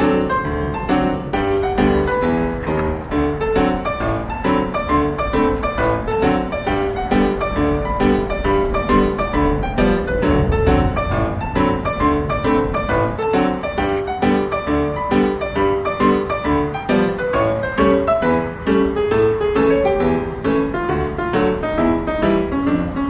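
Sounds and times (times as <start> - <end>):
bright piano tune: 0.0 - 23.0.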